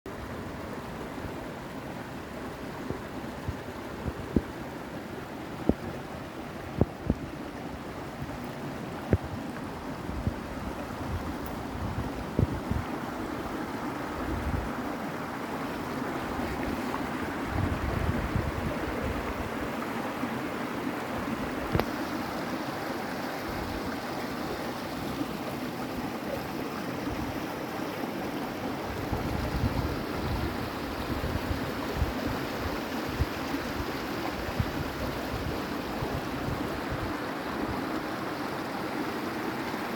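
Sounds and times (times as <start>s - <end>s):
running water rushing: 0.1s - 39.9s.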